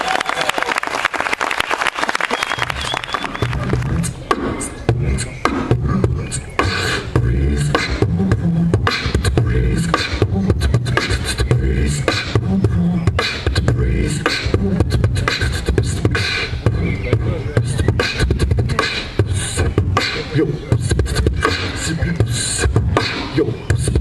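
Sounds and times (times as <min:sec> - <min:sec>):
beatboxing into a microphone: 0:02.6 - 0:24.0.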